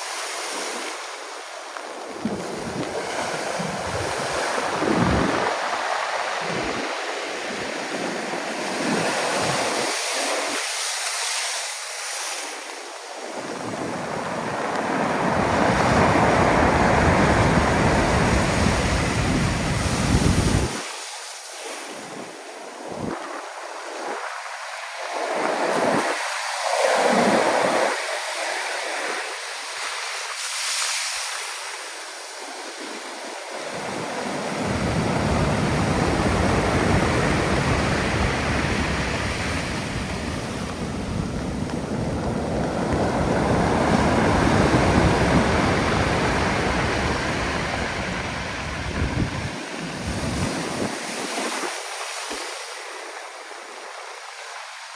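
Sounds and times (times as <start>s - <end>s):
heavy waves breaking on shore: 0.0s - 54.9s
wind on microphone: 0.4s - 10.8s, 12.6s - 21.0s, 21.8s - 30.5s, 32.4s - 54.8s.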